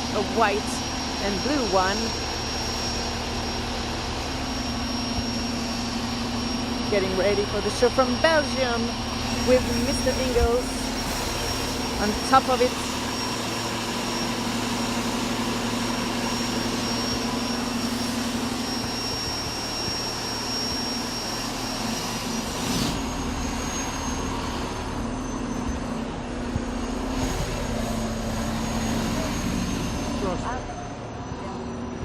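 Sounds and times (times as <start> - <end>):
thin high whine: 0.0 - 32.0.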